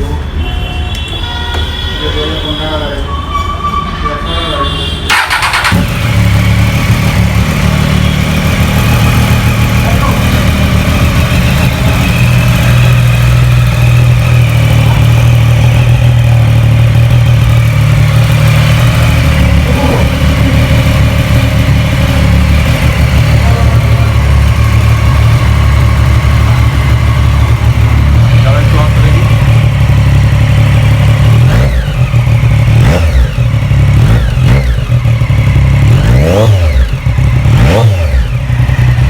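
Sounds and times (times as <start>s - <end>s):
motorcycle engine idling loudly: 5.1s - 39.0s.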